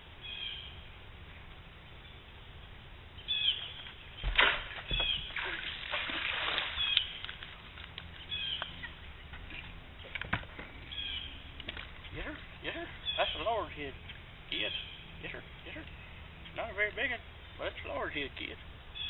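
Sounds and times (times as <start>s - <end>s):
bird chirping: 0.2s - 5.6s, 6.7s - 7.4s, 8.0s - 19.0s.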